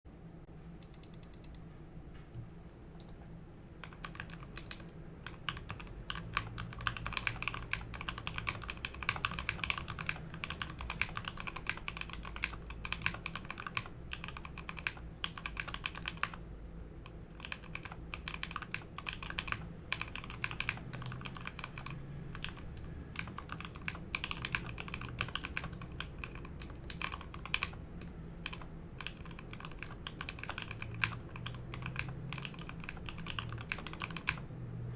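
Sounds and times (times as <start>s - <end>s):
mechanical keyboard typing: 3.8s - 34.5s.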